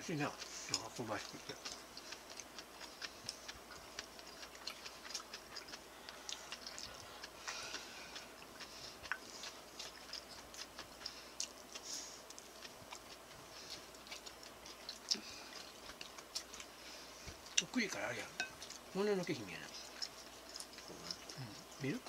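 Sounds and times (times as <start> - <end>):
light hiss: 0.0 - 22.0
person chewing with wet smacks: 0.0 - 22.0.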